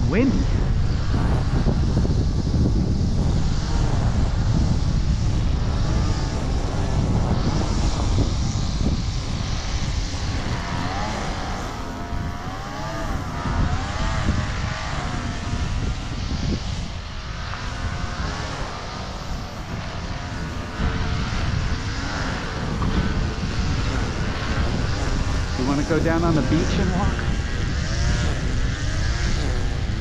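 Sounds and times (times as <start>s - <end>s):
leaf blower running: 0.0s - 30.0s
wind buffeting microphone: 0.0s - 30.0s.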